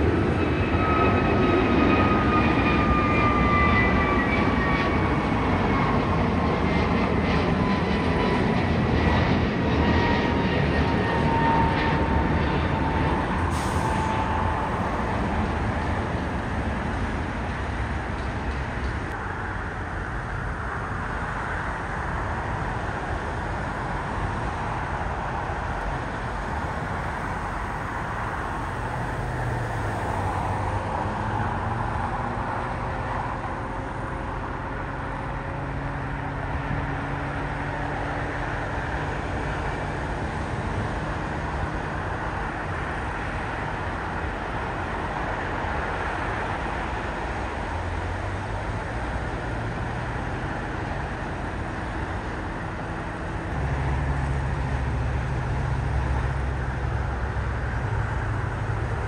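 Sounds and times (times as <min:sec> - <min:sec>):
jet airliner engine whine: 0:00.0 - 0:59.0
jet engines rumbling: 0:00.0 - 0:59.0.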